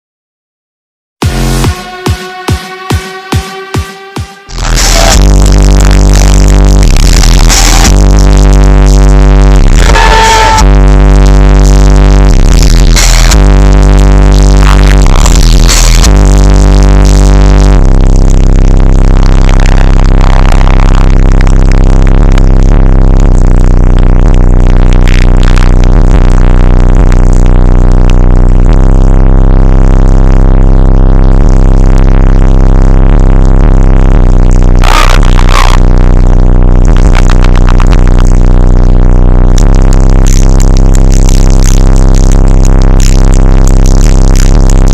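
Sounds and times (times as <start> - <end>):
bass-heavy electronic music: 1.2 - 44.9.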